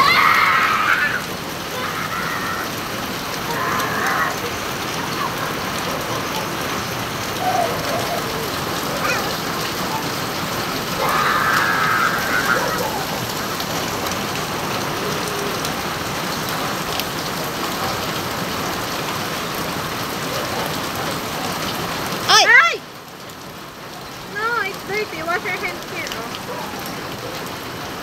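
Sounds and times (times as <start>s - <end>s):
rain on wet concrete street: 0.0s - 28.0s.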